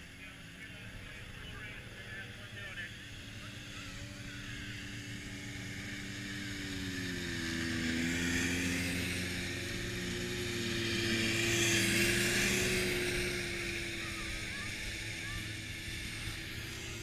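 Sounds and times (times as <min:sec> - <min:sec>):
snowmobile engines racing: 0:00.0 - 0:17.0.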